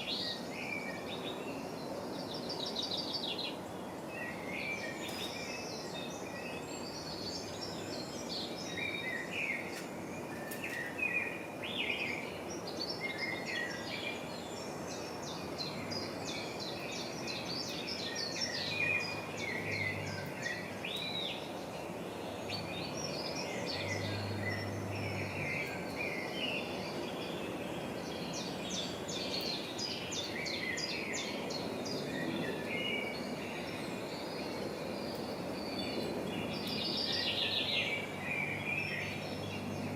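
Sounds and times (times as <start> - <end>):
background noise rush: 0.0 - 39.9
small birds chirping and trilling: 0.0 - 39.9.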